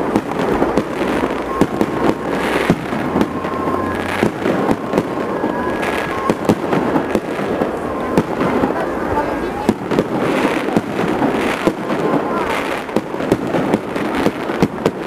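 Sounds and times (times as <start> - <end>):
firework bangs and crackles: 0.0 - 15.0
rumble of firework bursts: 0.0 - 15.0.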